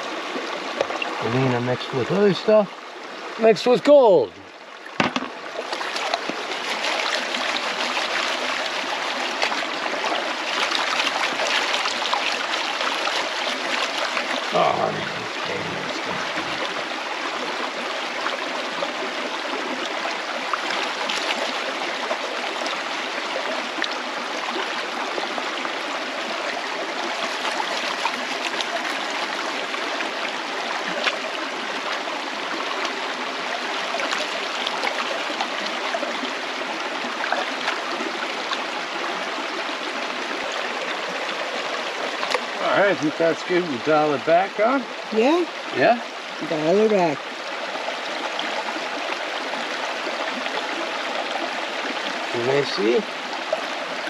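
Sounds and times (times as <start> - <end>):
river rushing over stones: 0.0 - 54.0.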